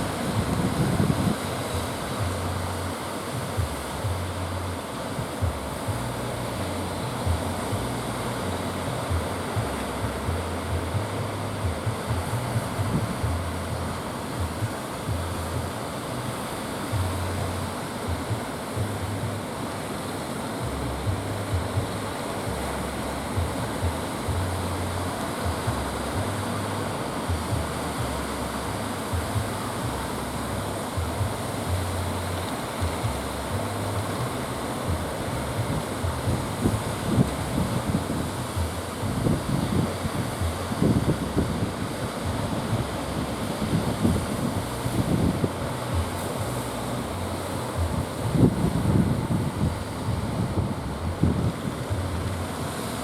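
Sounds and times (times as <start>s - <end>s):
sea surf washing: 0.0s - 53.0s
wind buffeting microphone: 0.0s - 53.0s.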